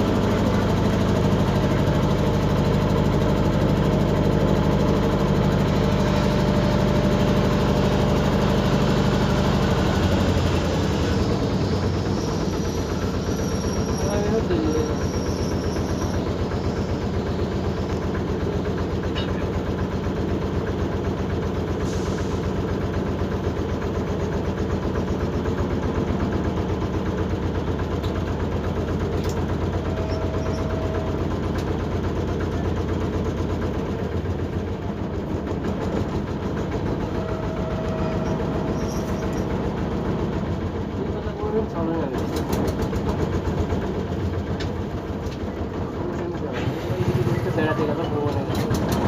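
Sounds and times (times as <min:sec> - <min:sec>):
boat engine throbbing: 0:00.0 - 0:49.0.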